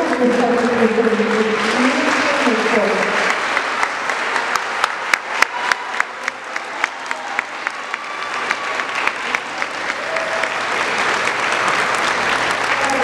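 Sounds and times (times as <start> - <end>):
audience applauding: 0.0 - 13.0
nearby person clapping: 1.0 - 13.0.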